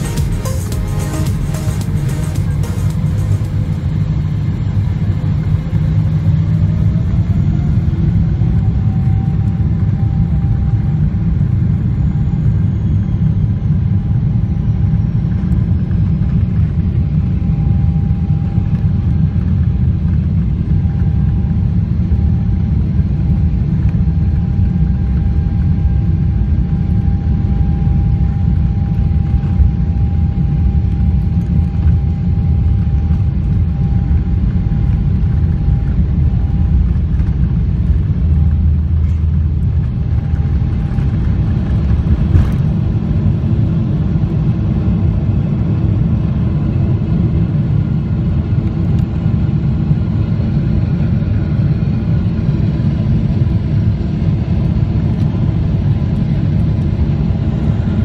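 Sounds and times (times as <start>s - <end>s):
heavy rumble of takeoff roll: 0.0s - 58.0s
jet engine whine: 0.0s - 58.0s.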